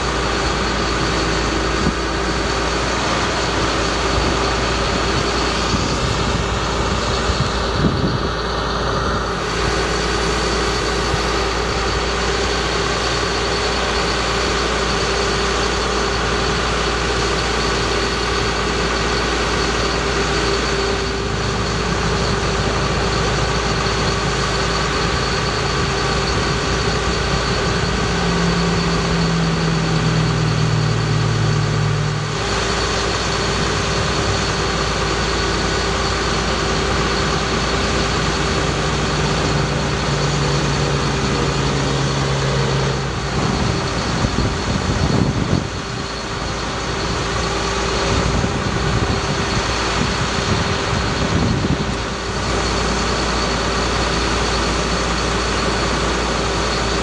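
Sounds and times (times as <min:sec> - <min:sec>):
deeper hum: 0:00.0 - 0:54.2
truck engine idling: 0:00.0 - 0:57.0.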